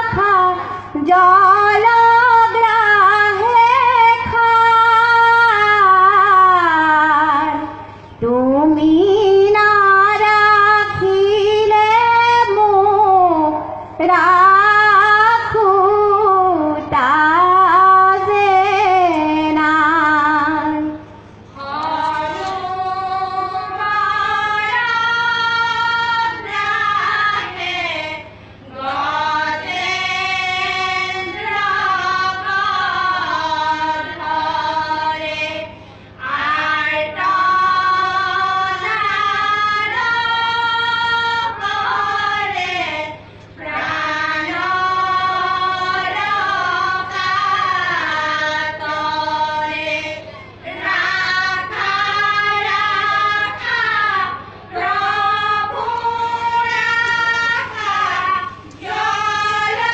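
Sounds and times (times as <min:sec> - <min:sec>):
group chanting devotional song: 0:00.0 - 0:59.9.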